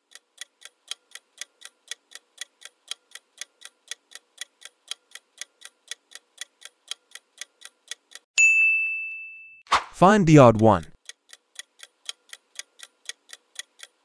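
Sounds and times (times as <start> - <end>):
clock ticking: 0.0 - 8.3, 10.2 - 14.0.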